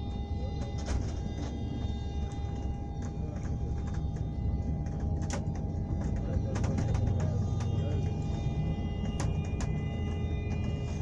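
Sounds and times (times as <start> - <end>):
constant whine: 0.0 - 11.0
vehicle engine rumble: 0.0 - 11.0.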